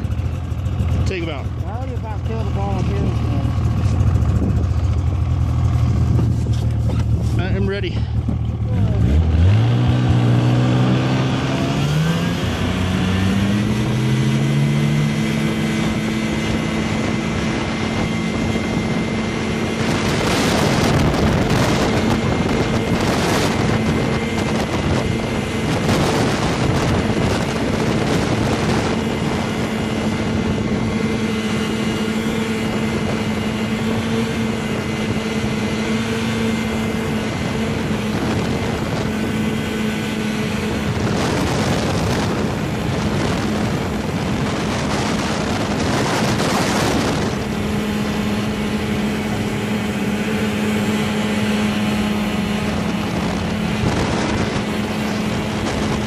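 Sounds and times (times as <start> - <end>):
rough rushing noise: 0.0 - 56.0
snowmobile engine revving: 0.0 - 56.0.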